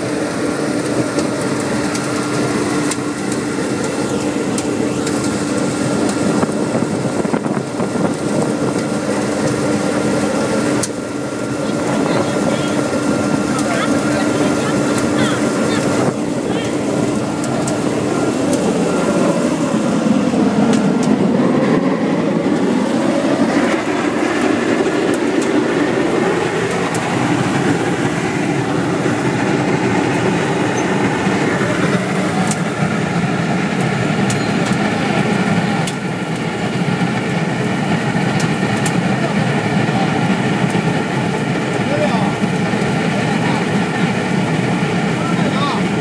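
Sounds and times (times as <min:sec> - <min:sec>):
air blower: 0:00.0 - 0:46.0
burner flame rushing: 0:00.0 - 0:46.0.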